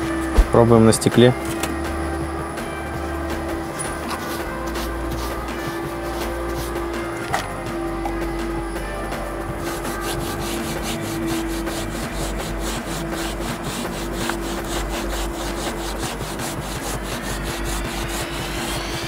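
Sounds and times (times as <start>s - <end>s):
cloth rubbing on window glass: 2.7s - 19.0s.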